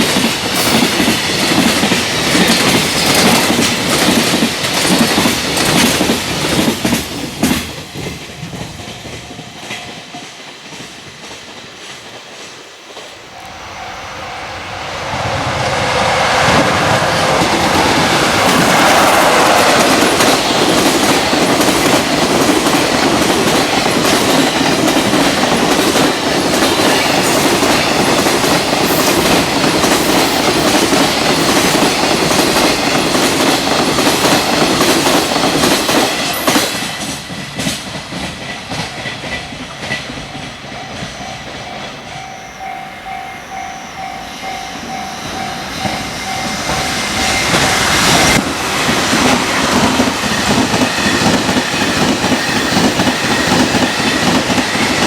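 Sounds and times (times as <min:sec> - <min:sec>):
train wheels clacking over rail joints: 0:00.0 - 0:13.1, 0:16.8 - 0:41.2, 0:45.4 - 0:55.0.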